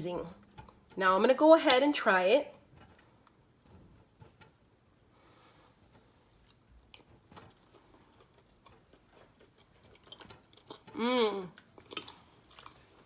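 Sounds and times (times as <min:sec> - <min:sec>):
person chewing food: 0:00.5 - 0:01.0, 0:02.6 - 0:13.0.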